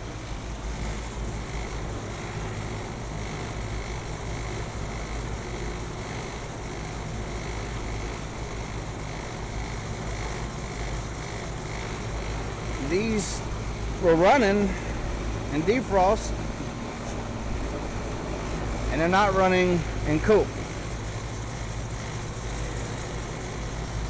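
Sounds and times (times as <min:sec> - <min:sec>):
faint steady whine: 0:00.0 - 0:24.0
heat pump fans droning: 0:00.0 - 0:24.0.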